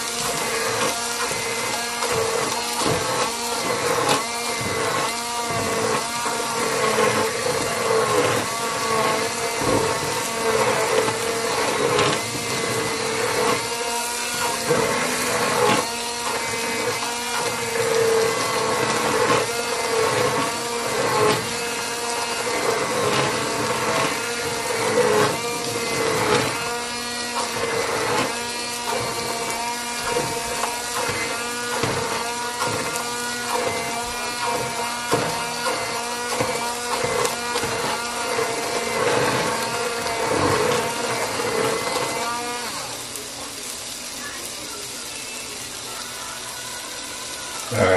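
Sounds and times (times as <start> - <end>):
blender knocking in pot: 0.0 - 43.1
immersion blender motor whine: 0.0 - 47.9.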